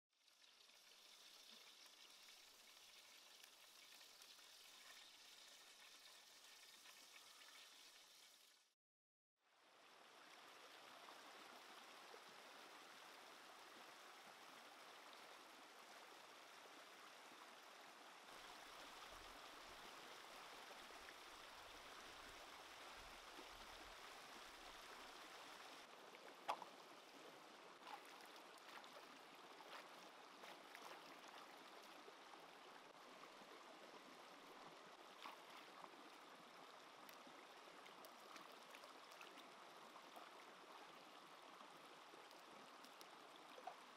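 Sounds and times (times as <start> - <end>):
stream running over rocks: 0.2 - 8.7, 9.8 - 43.9.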